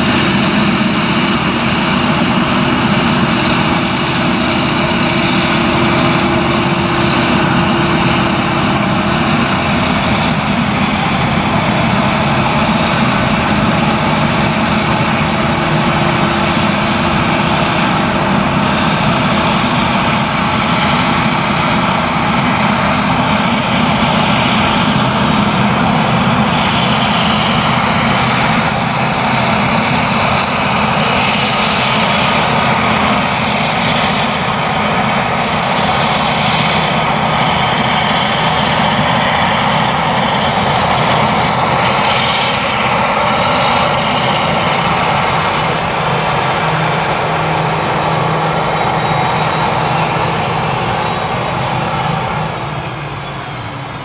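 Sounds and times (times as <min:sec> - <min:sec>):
forage harvester engine droning: 0:00.0 - 0:54.0
tractor pulling trailer: 0:00.0 - 0:54.0.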